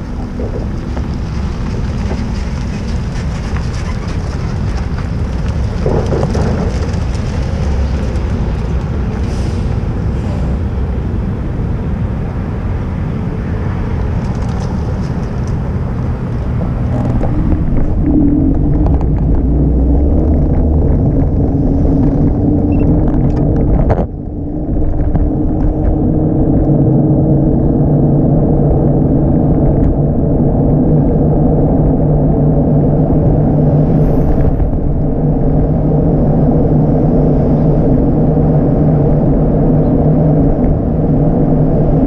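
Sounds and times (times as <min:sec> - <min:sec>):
road noise: 0:00.0 - 0:42.0
wind on microphone: 0:00.0 - 0:42.0.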